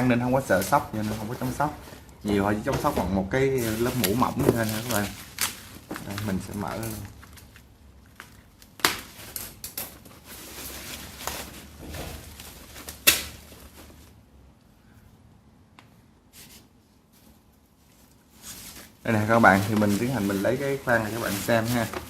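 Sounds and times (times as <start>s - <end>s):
packaging rustling: 0.4s - 14.2s, 17.1s - 22.0s.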